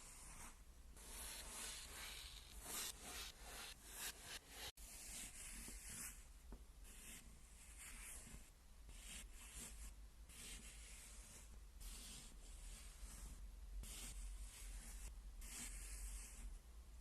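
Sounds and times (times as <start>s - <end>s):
blade scraping kinetic sand: 0.0s - 6.2s, 6.9s - 16.5s.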